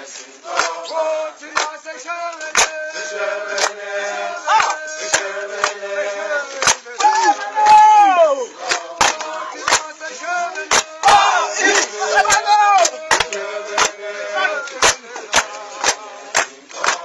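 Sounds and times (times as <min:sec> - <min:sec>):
men singing together: 0:00.0 - 0:17.0.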